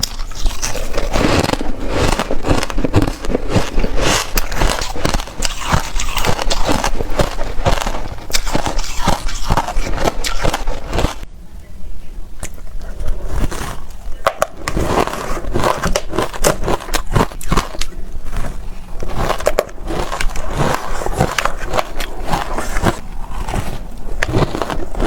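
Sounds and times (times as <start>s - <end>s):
ice being chewed: 0.0s - 11.2s, 12.4s - 25.0s.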